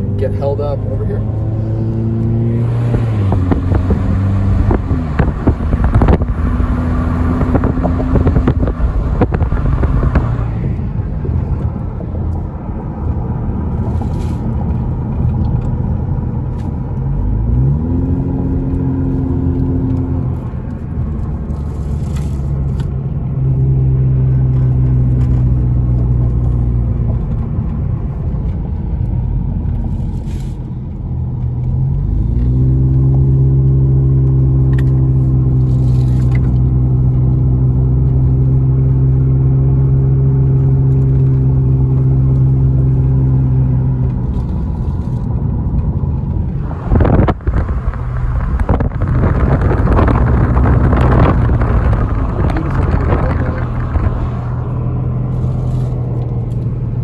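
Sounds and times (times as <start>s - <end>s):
car engine rumble: 0.0s - 57.0s.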